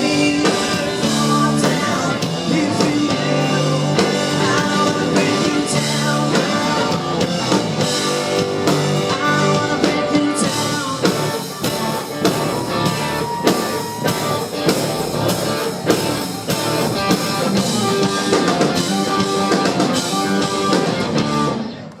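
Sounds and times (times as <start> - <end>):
country rock band playing: 0.0 - 22.0.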